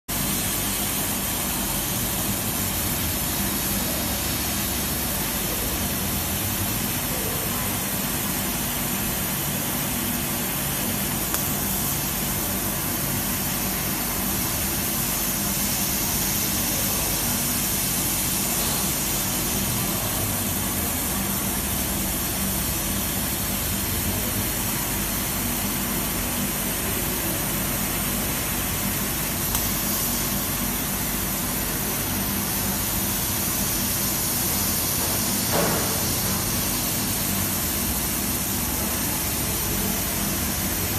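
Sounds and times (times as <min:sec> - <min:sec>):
laser cutter hissing: 0:00.1 - 0:40.9.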